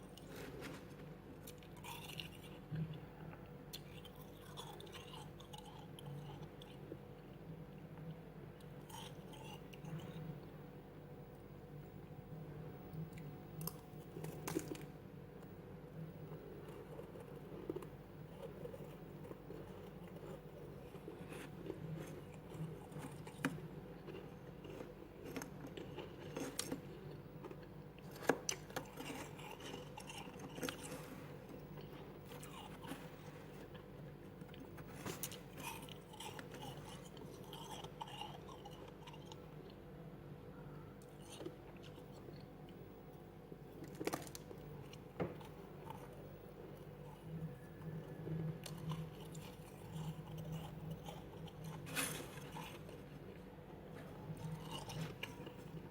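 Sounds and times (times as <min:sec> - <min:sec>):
frost being chewed crunching: 0:00.0 - 0:10.7, 0:12.9 - 0:15.5, 0:16.2 - 0:39.8, 0:41.0 - 0:55.9
faint steady hum: 0:00.0 - 0:55.9.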